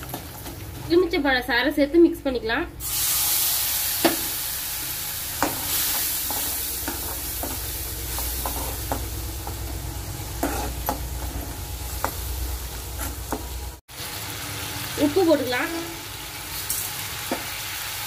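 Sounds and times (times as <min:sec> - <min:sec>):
liquid sizzling in hot oil: 0:02.8 - 0:18.0.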